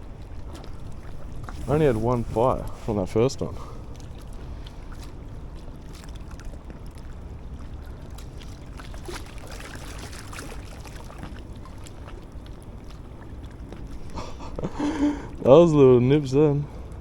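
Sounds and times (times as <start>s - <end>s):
river water lapping on rocks: 0.0s - 17.0s.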